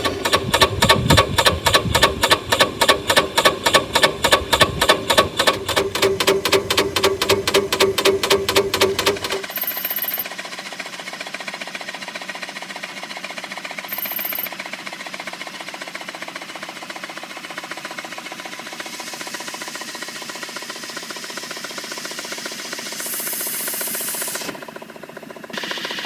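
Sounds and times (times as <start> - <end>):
small model engine clattering: 0.0 - 26.0.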